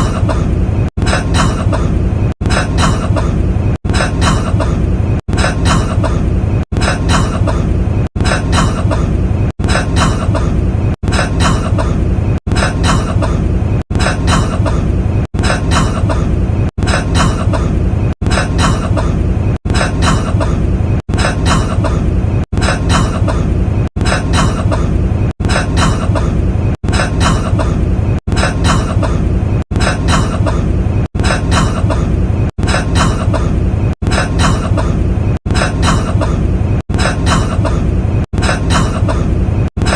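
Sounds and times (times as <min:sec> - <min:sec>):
man coughing: 0:00.0 - 0:39.9.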